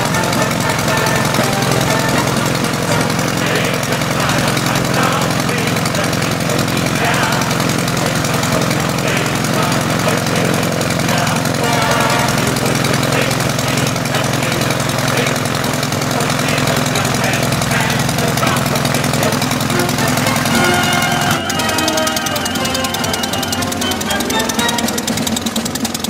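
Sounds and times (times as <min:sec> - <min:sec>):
small aero engine running: 0:00.0 - 0:26.0.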